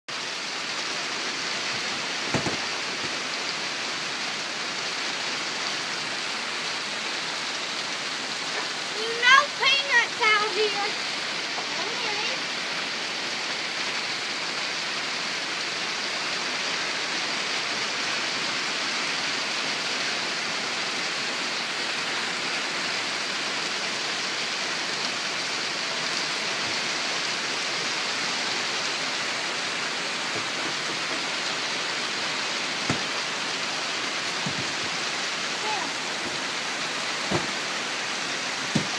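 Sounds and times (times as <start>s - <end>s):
heavy rain hissing: 0.1s - 38.9s.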